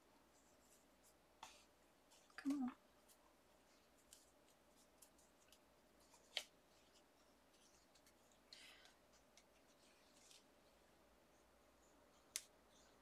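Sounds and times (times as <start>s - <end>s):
light clicks of paper handling: 0.3s - 10.8s
paper rustle: 0.3s - 10.8s.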